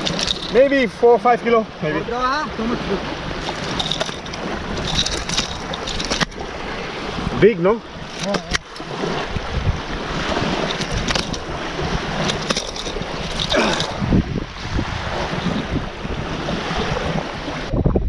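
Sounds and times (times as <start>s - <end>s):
small waves washing ashore: 0.0s - 17.8s
wind on microphone: 2.0s - 18.0s.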